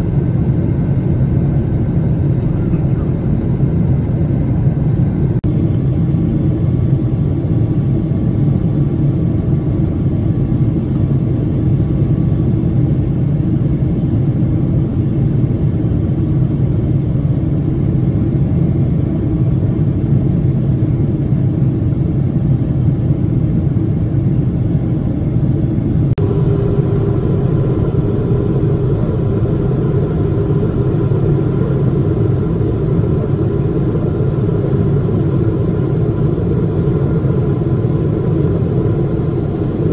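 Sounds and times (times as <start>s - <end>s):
airflow over fuselage: 0.0s - 39.9s
airplane cabin rumble: 0.0s - 39.9s
jet engine noise: 0.0s - 39.9s
steady high-pitched hum: 0.0s - 39.9s.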